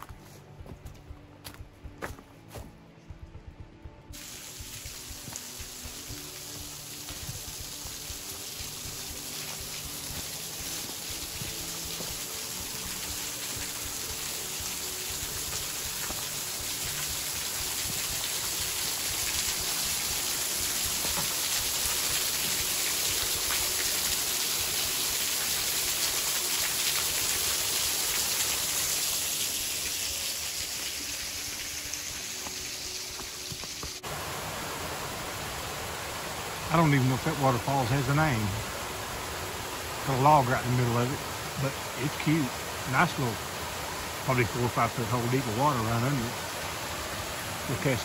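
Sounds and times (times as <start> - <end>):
waterfall splashing into pool: 4.2 - 48.0.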